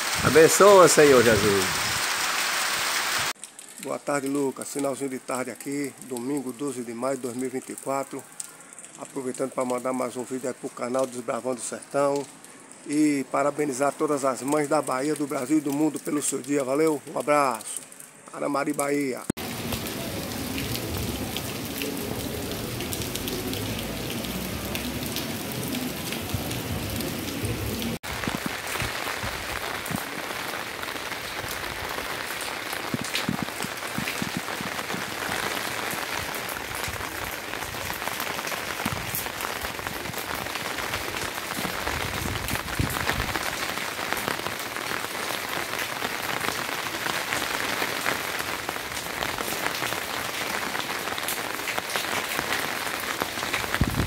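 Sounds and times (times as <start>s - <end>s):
heavy rain on a tile roof: 0.0s - 54.0s
steady rain falling: 0.0s - 54.0s.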